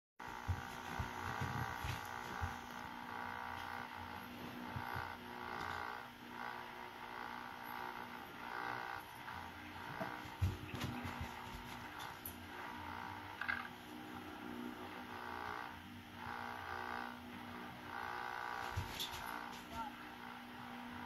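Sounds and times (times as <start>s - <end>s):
boat engine droning: 0.2s - 21.0s.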